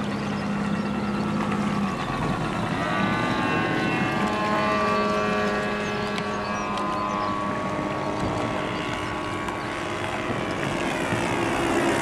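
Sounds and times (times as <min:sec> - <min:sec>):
model aircraft engine whining: 0:00.0 - 0:12.0.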